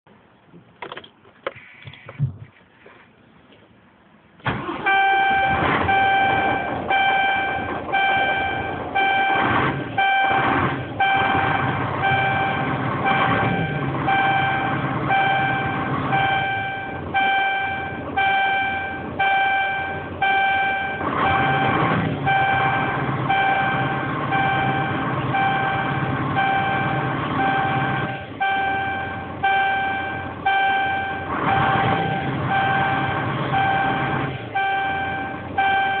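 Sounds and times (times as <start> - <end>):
diesel engine idling: 3.1 - 36.0
warning beeper beeping: 4.6 - 36.0.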